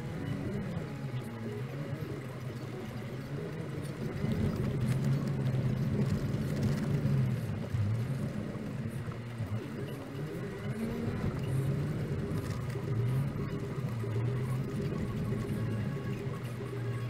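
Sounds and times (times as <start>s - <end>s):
car engine running: 0.0s - 17.0s
tyre and road noise on dirt: 0.0s - 17.0s.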